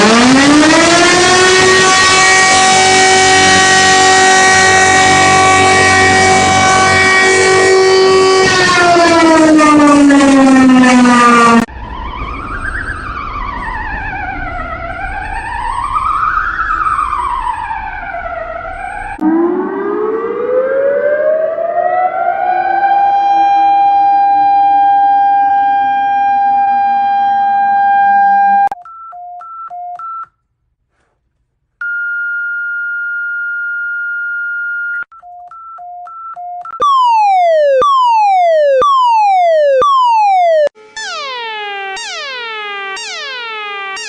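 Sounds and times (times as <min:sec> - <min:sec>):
steady held alarm tone: 0:00.0 - 0:11.7, 0:12.3 - 0:28.8, 0:36.7 - 0:44.0
falling alarm sweeps: 0:00.0 - 0:28.8, 0:36.7 - 0:44.0
siren wail: 0:00.0 - 0:28.8, 0:36.7 - 0:44.0.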